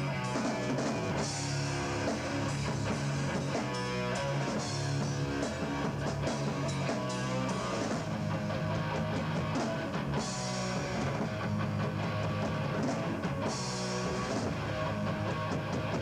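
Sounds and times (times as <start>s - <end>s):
electric guitar: 0.0s - 16.0s
steady low bass notes: 0.0s - 16.0s.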